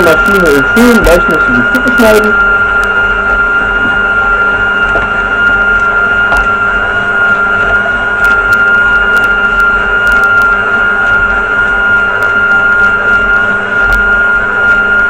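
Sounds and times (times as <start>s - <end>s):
mixer motor whining: 0.0s - 15.0s.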